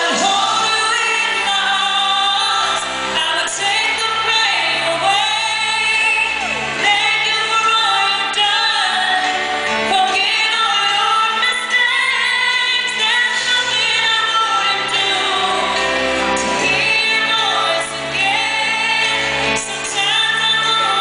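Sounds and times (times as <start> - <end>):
woman singing with vibrato: 0.0 - 21.0.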